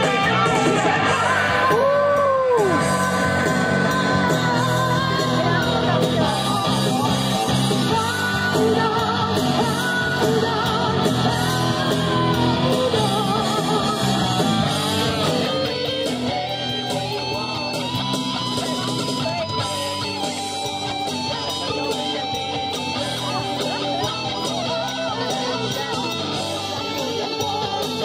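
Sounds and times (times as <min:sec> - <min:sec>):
rock music with singer: 0:00.0 - 0:28.0.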